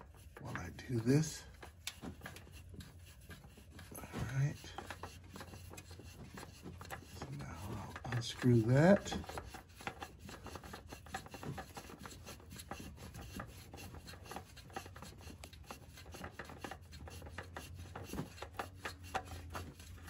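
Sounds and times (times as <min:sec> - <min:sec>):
hand rubbing oil filter: 0:00.0 - 0:20.0.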